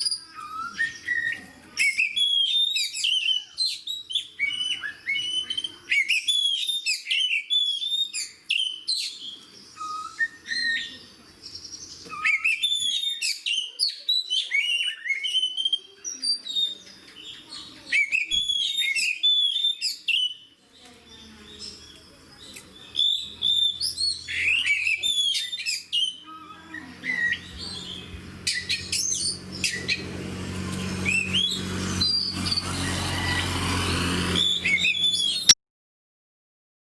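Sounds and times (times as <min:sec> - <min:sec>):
bird singing whistles and chirps: 0:00.0 - 0:35.6.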